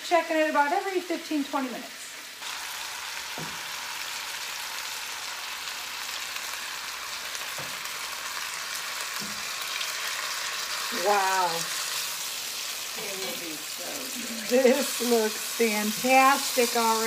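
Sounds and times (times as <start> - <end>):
meat sizzling in a skillet: 0.1 - 17.0.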